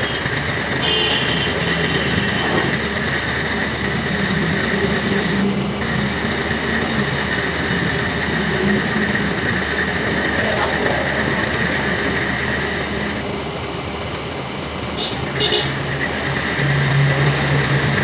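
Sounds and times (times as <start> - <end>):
metal lathe running: 0.0 - 18.0.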